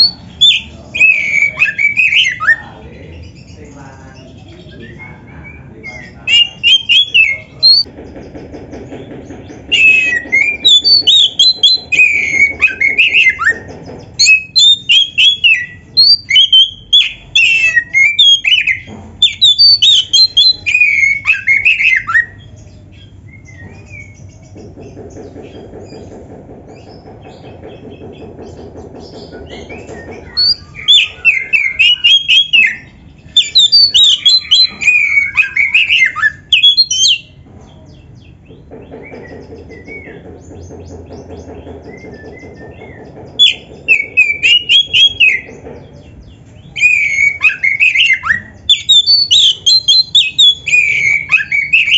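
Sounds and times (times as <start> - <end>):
magpie-robin singing: 0.0 - 8.4, 9.2 - 51.9.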